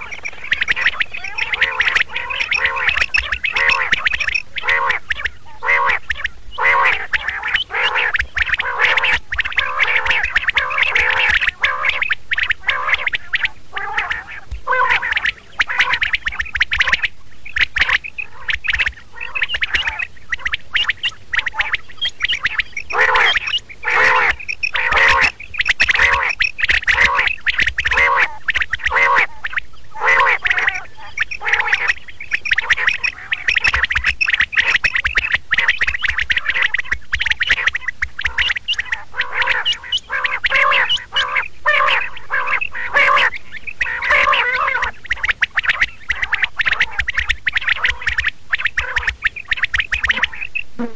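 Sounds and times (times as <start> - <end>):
quail calling: 0.0 - 50.9.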